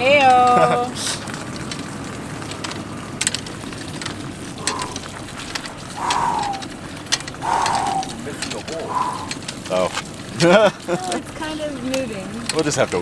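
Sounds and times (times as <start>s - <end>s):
hand pump clicks: 0.0s - 13.0s
water splashing from pump spout: 0.0s - 13.0s.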